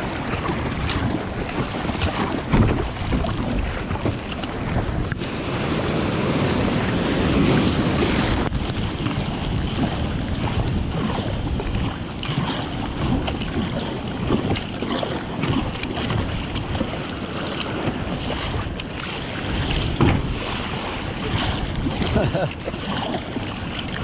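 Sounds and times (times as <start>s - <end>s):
water splashing around kayak: 0.0s - 24.0s
wind buffeting microphone: 0.0s - 24.0s.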